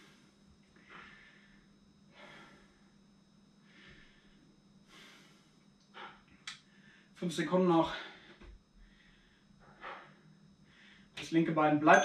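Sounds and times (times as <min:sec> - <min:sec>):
man breathing deeply: 0:00.0 - 0:07.2, 0:07.9 - 0:11.2.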